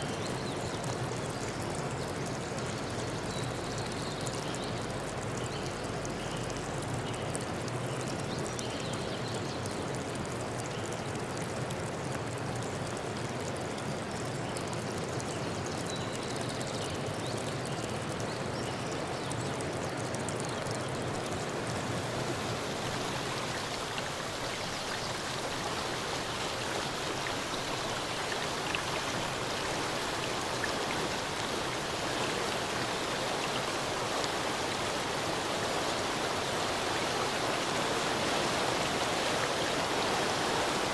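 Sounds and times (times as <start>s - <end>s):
faint drip-like ticks: 0.0s - 40.9s
rushing water: 0.0s - 40.9s.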